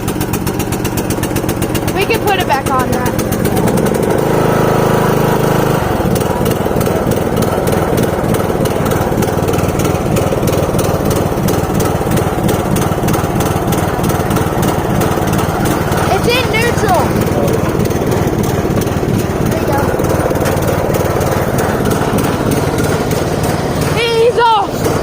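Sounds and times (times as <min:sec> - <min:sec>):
riding lawn mower engine running: 0:00.0 - 0:25.0.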